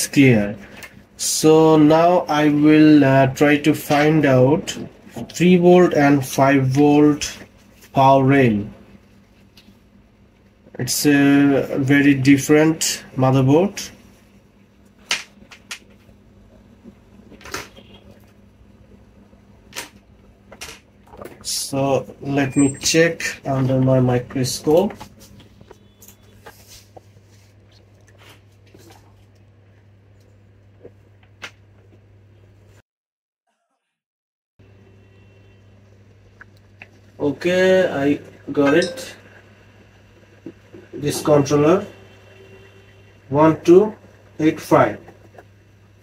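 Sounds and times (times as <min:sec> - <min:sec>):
low electrical hum: 0:00.0 - 0:32.8, 0:34.6 - 0:46.0.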